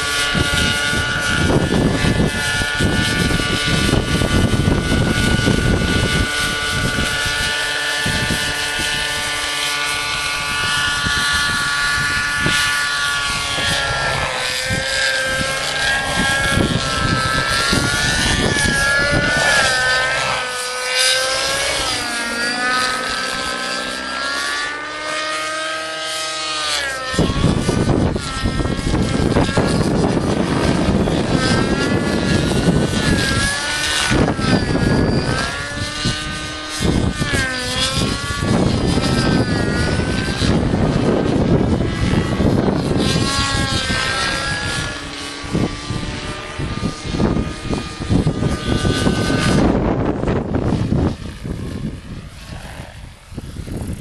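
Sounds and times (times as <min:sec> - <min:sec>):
model helicopter engine and rotors: 0:00.0 - 0:54.0
wind rumble on microphone: 0:00.0 - 0:54.0.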